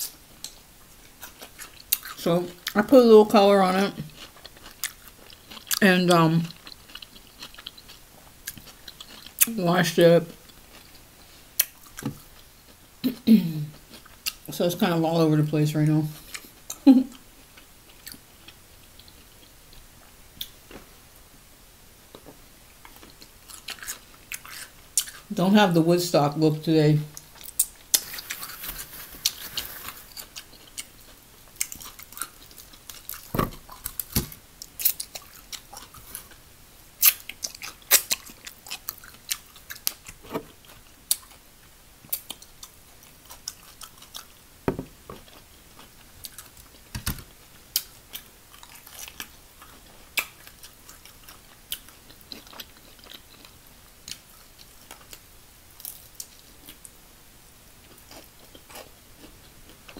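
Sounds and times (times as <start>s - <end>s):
chewing crispy fried chicken: 0.0s - 12.9s, 13.6s - 14.8s, 16.1s - 20.6s, 22.1s - 25.3s, 27.1s - 44.5s, 45.1s - 57.0s, 57.8s - 59.9s.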